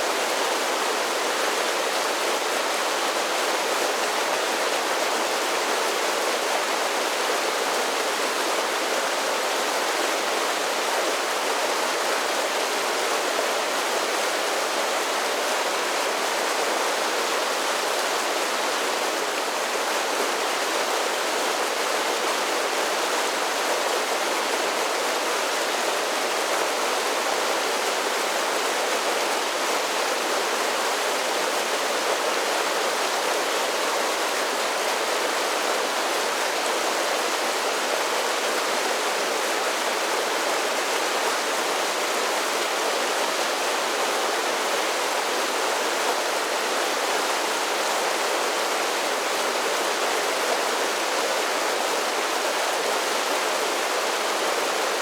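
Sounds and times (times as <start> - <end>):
creek water spilling over waterfalls: 0.0 - 55.0.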